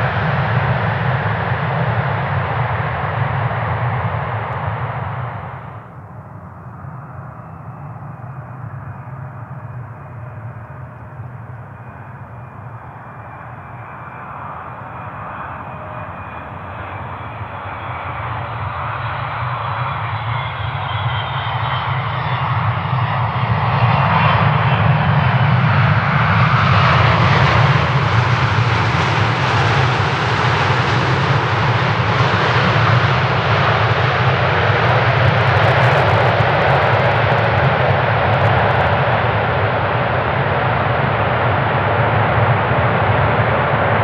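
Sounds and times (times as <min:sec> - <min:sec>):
jet engine noise on landing: 0:00.0 - 0:44.0.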